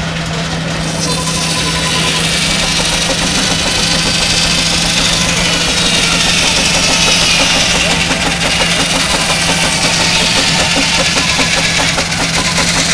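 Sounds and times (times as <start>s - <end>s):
traction engine running: 0.0s - 12.9s.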